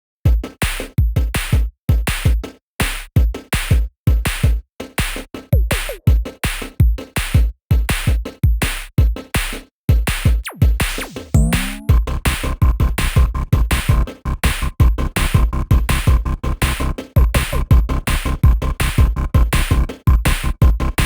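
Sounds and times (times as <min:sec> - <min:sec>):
electronic music with drum-machine beat: 0:00.3 - 0:21.0.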